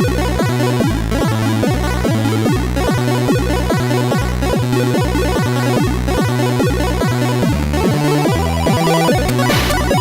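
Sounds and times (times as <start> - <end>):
chiptune music: 0.0 - 10.0.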